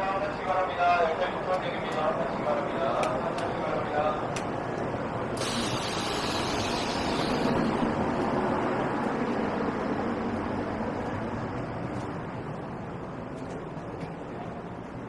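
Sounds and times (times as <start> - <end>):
electric train on track: 0.0 - 15.0.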